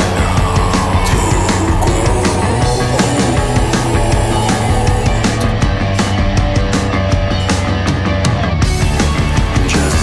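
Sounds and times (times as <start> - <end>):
bass guitar: 0.0 - 10.0
distorted guitars: 0.0 - 10.0
steady drum beat: 0.0 - 10.0.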